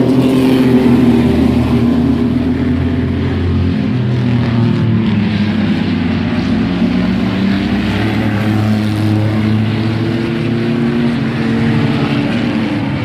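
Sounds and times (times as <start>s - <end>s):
racing truck engines passing: 0.0s - 13.0s.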